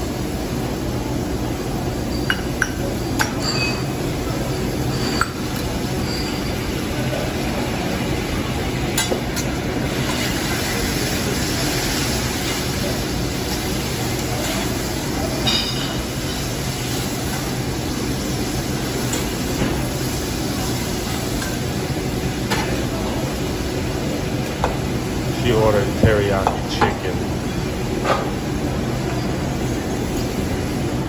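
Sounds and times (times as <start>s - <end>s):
chicken sizzling on a griddle: 2.9s - 25.6s, 27.4s - 31.0s.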